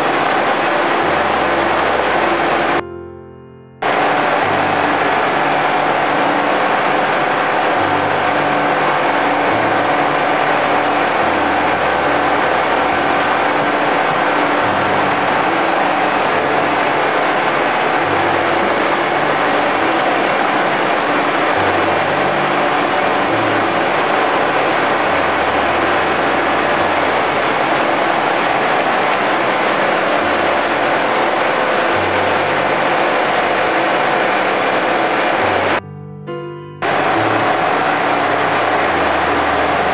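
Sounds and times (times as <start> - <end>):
engine and pump droning: 0.0 - 2.8, 3.8 - 35.8, 36.8 - 39.9.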